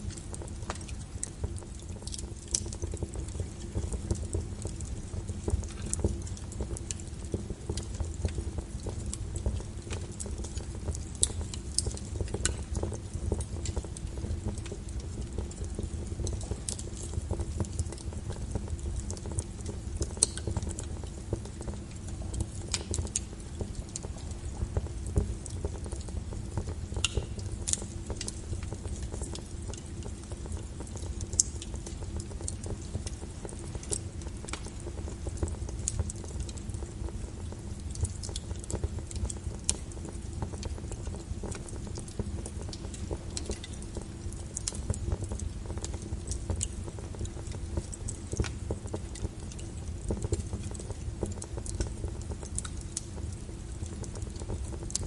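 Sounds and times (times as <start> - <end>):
fire crackling and popping: 0.0 - 55.0
wood logs burning: 0.0 - 55.0.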